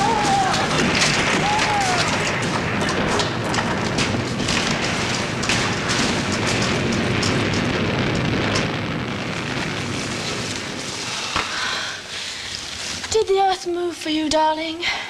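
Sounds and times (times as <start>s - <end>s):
bricks and debris falling: 0.0s - 13.1s.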